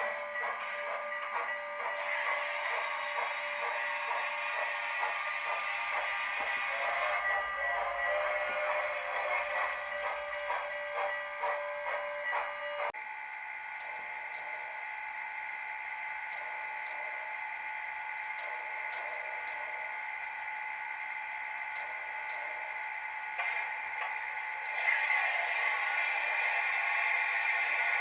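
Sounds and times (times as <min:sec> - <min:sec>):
model steam locomotive chuffing: 0:00.0 - 0:28.0
whirring hum with high tones: 0:00.0 - 0:28.0.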